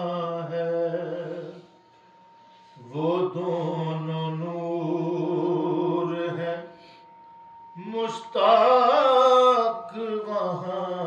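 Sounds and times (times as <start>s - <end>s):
faint steady tone: 0.0s - 11.0s.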